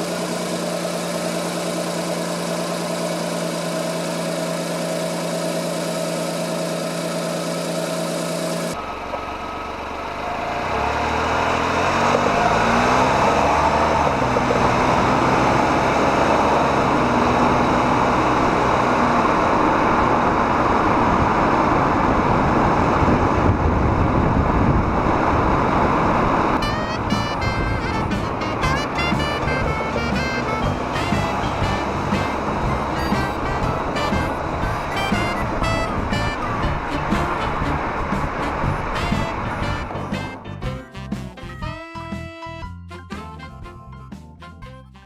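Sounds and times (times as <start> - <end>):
car engine idling: 0.0 - 40.9
car engine accelerating: 0.0 - 41.7
road and wind noise: 0.0 - 42.7.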